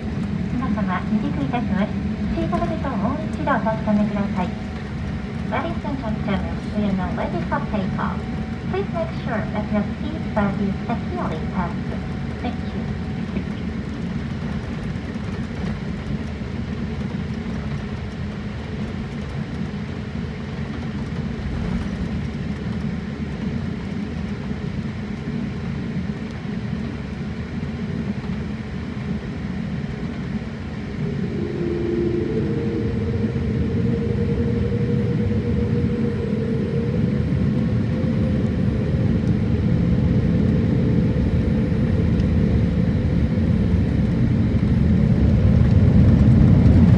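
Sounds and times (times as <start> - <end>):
airliner cabin rumble: 0.0 - 46.9
jet engines whining: 0.0 - 46.9.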